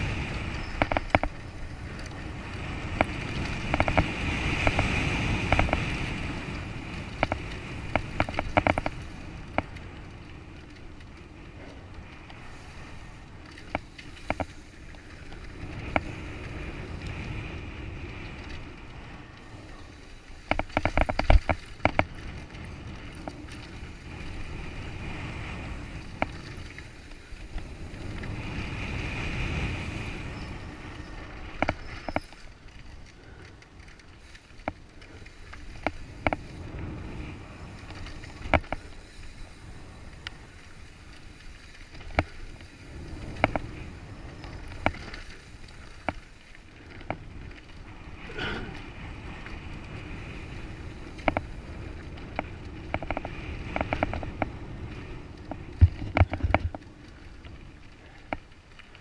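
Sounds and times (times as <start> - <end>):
bike rattling and knocking: 0.0 - 59.0
bike tyres rumbling over dirt: 0.0 - 59.0.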